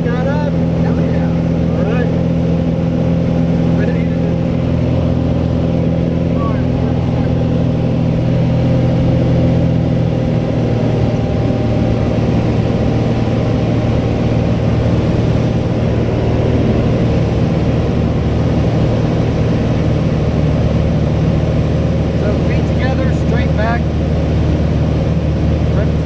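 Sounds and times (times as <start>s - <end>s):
light aircraft engine droning: 0.0s - 26.0s.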